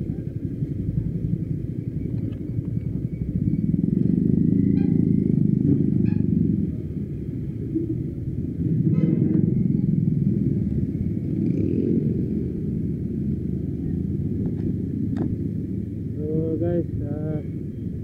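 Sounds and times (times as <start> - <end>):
wind rumble: 0.0 - 18.0.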